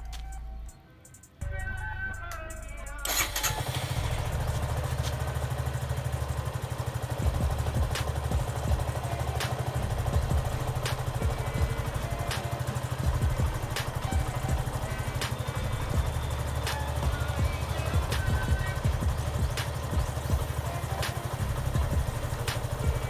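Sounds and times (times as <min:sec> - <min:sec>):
motorcycle engine idling: 0:01.4 - 0:23.0
light ticking: 0:02.1 - 0:23.0.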